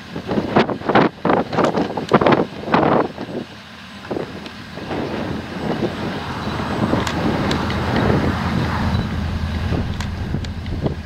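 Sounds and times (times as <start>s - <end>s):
harvester engine and machinery rumble: 1.2s - 11.0s.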